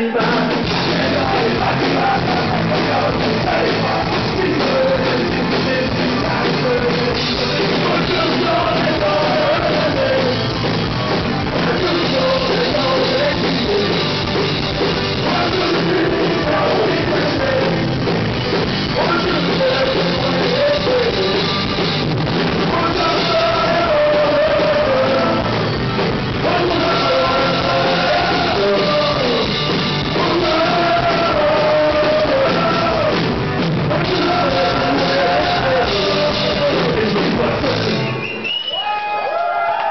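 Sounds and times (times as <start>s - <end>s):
man singing: 0.0s - 10.6s, 11.4s - 14.4s, 15.0s - 18.1s, 18.8s - 21.8s, 22.5s - 25.6s, 26.3s - 38.2s
electric guitar: 0.0s - 38.5s
drums: 0.0s - 39.9s.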